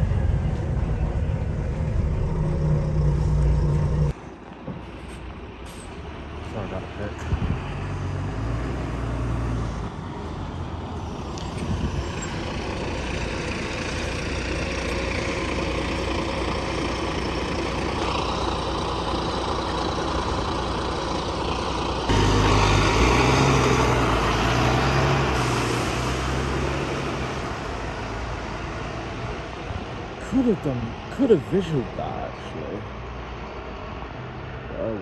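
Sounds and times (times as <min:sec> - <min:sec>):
bus engine running: 0:00.0 - 0:35.0
road and cabin noise: 0:00.0 - 0:35.0.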